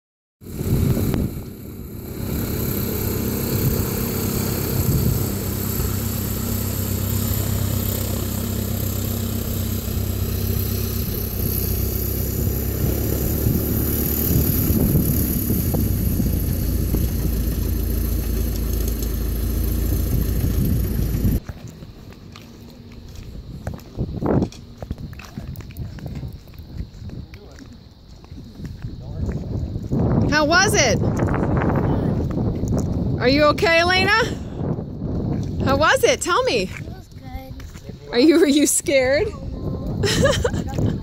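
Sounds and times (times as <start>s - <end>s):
light airplane engine and propeller: 0.4s - 41.0s.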